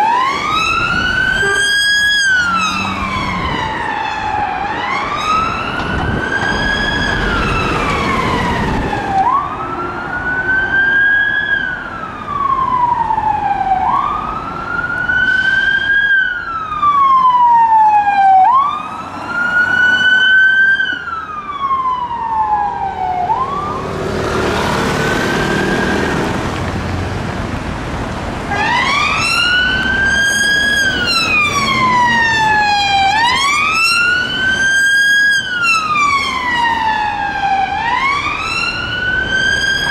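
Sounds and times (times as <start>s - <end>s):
police siren wailing: 0.0s - 26.6s, 28.4s - 39.9s
traffic noise: 0.0s - 39.9s.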